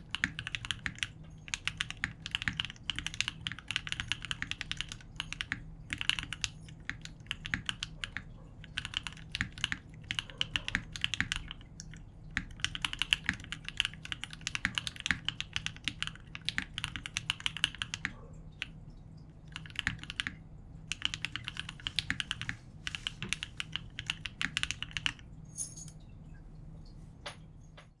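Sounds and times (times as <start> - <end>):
typing on mechanical keyboard: 0.0 - 18.8, 19.4 - 25.2.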